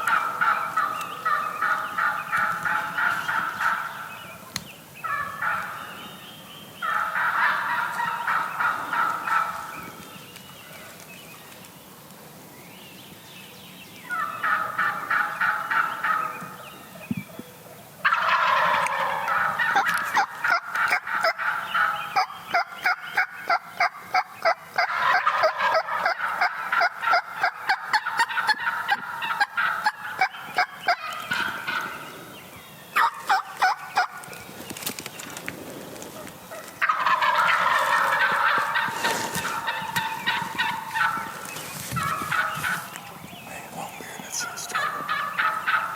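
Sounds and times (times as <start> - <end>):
turkeys gobbling: 0.0 - 6.2, 6.8 - 10.1, 14.0 - 16.6, 18.0 - 32.4, 33.0 - 45.9.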